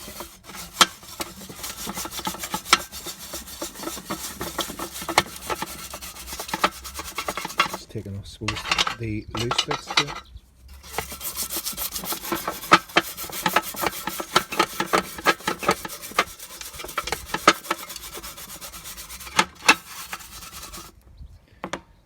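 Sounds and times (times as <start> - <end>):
brush scrubbing barbecue: 0.0 - 20.9.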